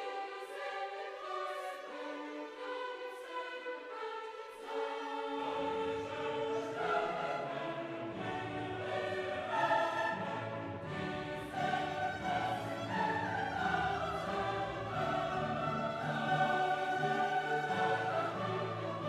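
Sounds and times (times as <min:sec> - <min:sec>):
choir with orchestra: 0:00.0 - 0:19.0.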